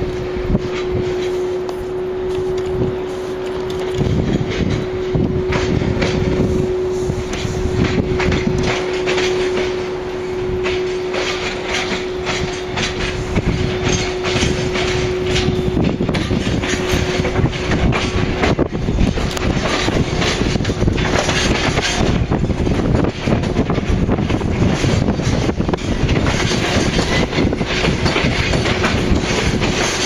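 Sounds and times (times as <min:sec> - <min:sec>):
steady tone: 0:00.0 - 0:29.4
freight train rumble: 0:00.0 - 0:30.0
wheels clacking over rail joints: 0:00.0 - 0:30.0.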